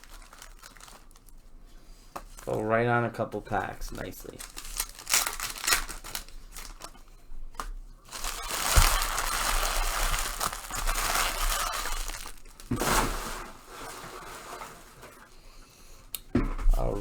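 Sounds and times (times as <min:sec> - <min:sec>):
card pack wrappers crinkling: 0:00.0 - 0:02.7, 0:03.3 - 0:15.4.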